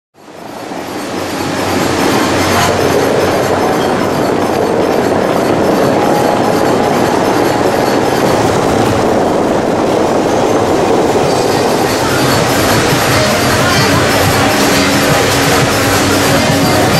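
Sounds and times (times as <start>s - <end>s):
fountain water rushing: 0.2s - 16.9s.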